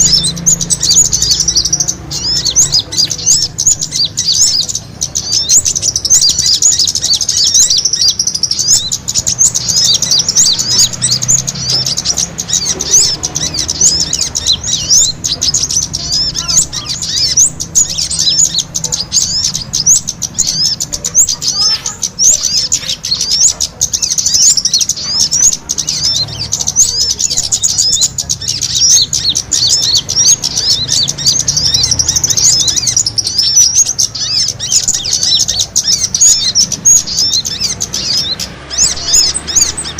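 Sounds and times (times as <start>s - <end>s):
small birds chirping rapidly: 0.0s - 39.9s.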